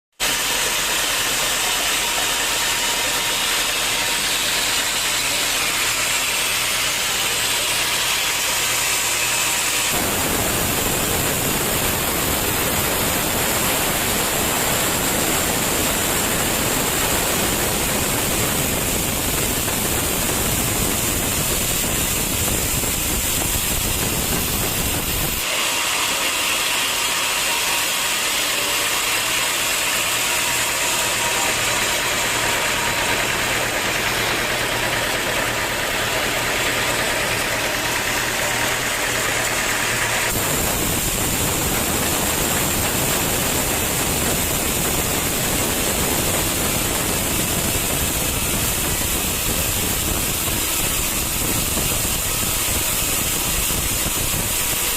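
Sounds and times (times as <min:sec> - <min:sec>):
sawmill machinery running: 0:00.1 - 0:54.9.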